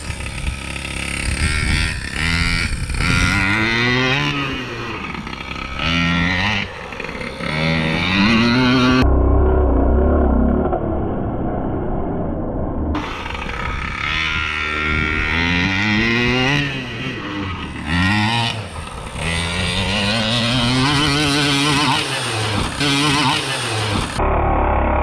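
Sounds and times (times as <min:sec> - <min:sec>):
two-stroke engine revving: 0:00.0 - 0:09.3, 0:13.0 - 0:25.0.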